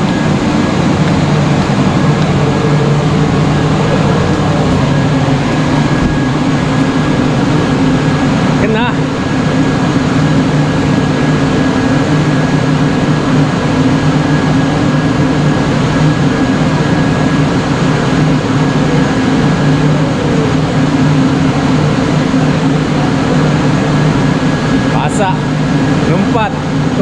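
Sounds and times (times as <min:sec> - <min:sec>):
faint high whine: 0:00.0 - 0:27.0
loud mechanical drone: 0:00.0 - 0:27.0.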